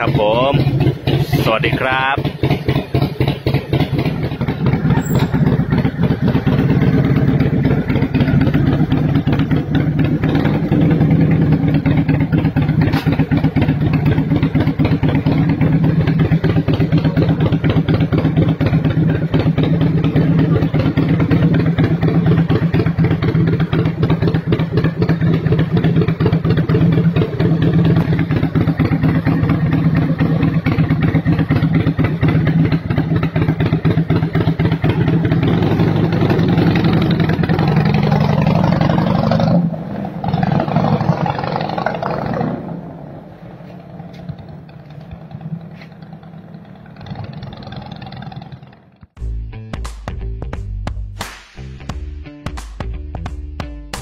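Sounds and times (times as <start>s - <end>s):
motorcycle engine idling: 0.0s - 49.2s.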